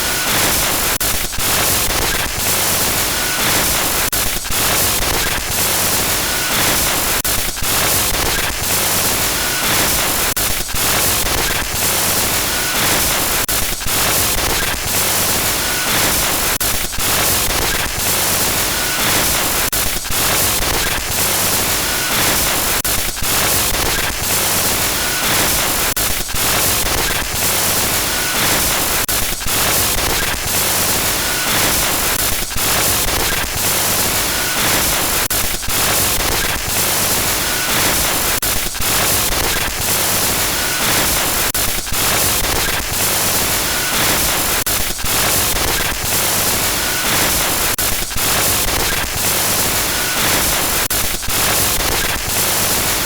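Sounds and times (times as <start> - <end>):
glitchy static hiss: 0.0 - 53.0.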